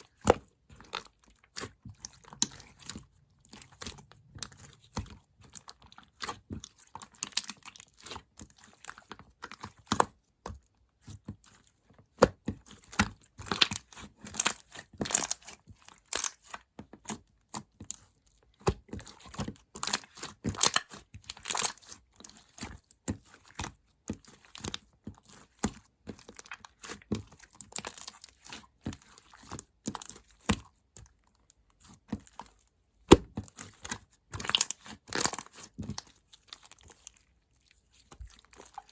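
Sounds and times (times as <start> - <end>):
slime squished and stretched by hand: 0.0 - 38.9.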